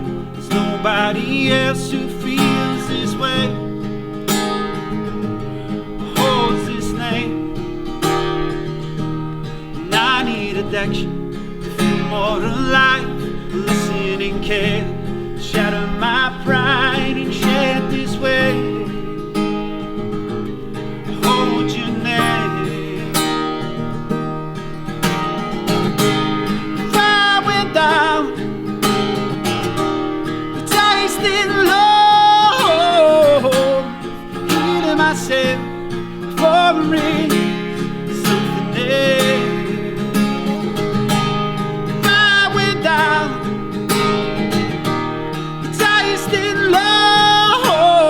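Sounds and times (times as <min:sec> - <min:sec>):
man singing: 0:00.0 - 0:23.9, 0:25.4 - 0:44.8, 0:45.5 - 0:48.0
strummed acoustic guitar: 0:00.0 - 0:48.0.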